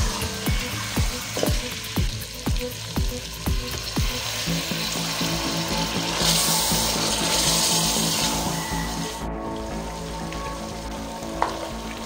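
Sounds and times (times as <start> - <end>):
background music with bass beat: 0.0 - 12.0
food sizzling in oil: 0.0 - 12.0.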